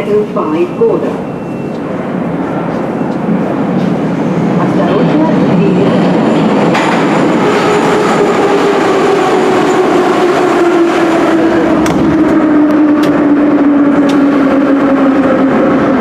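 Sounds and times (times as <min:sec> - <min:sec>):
metro train humming: 0:00.0 - 0:16.0.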